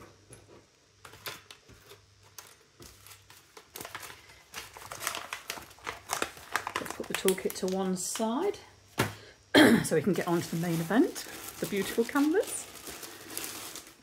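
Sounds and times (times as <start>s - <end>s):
plastic packaging crinkling: 1.0s - 8.6s, 10.0s - 14.0s.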